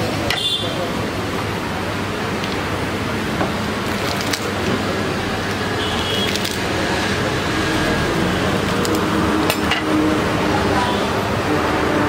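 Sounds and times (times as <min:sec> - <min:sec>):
busy food stall background noise: 0:00.0 - 0:12.0.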